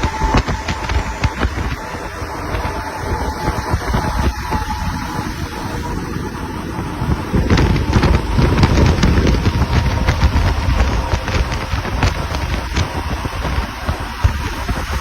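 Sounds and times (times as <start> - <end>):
truck traffic rumble: 0.0 - 15.0
wind noise: 0.0 - 15.0.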